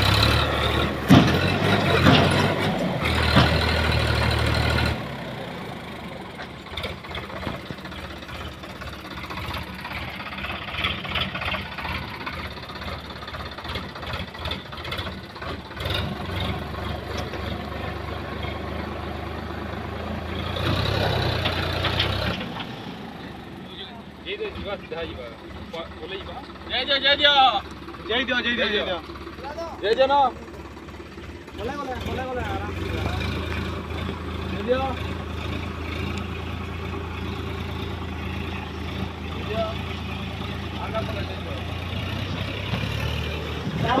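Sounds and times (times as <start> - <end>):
tractor engine under heavy load: 0.0 - 44.0.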